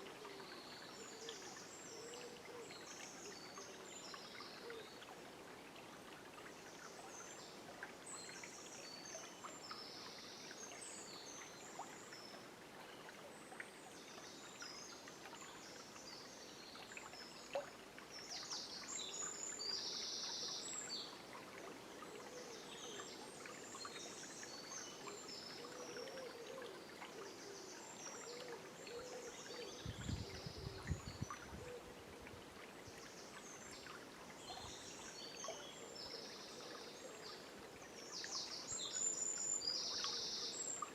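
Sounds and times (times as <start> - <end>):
river water running: 0.0 - 40.9.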